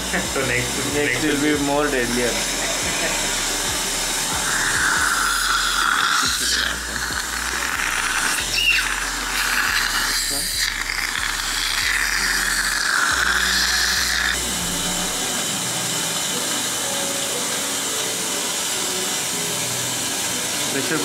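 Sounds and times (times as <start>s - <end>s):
background music with bass: 0.0s - 17.0s
dental suction hissing: 0.0s - 21.0s.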